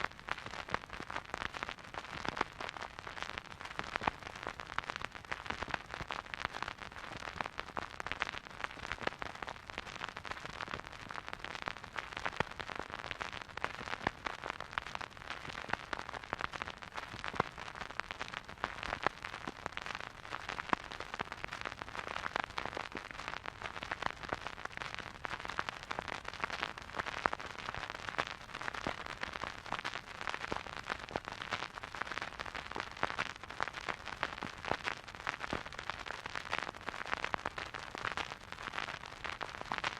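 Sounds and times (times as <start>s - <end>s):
vinyl record hiss and crackles: 0.0s - 39.9s.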